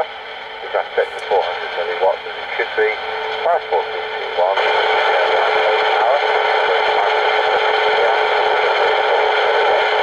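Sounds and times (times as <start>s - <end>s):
mid-pitched hum tone: 0.0s - 10.0s
radio receiver hiss: 0.0s - 10.0s.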